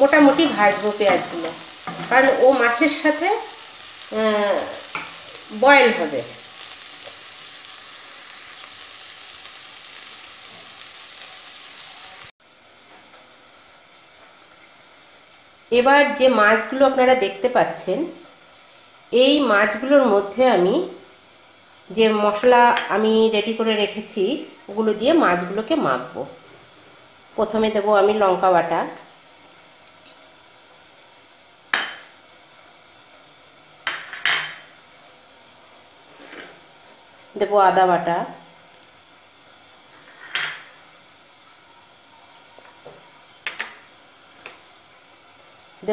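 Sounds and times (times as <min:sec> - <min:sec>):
onions sizzling in oil: 0:00.0 - 0:12.4, 0:13.4 - 0:45.9.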